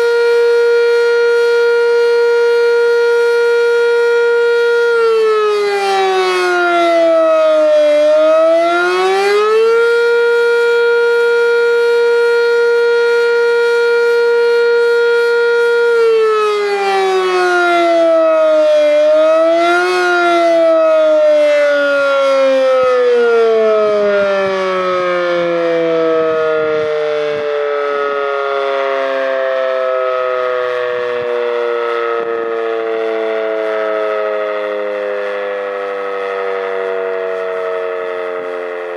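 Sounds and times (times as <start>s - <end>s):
electromechanical fire siren: 0.0s - 38.9s.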